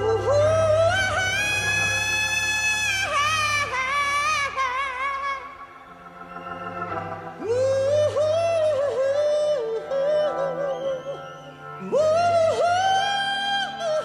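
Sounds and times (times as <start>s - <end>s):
hammond organ: 0.0s - 14.0s
high wailing notes with vibrato: 0.0s - 14.0s.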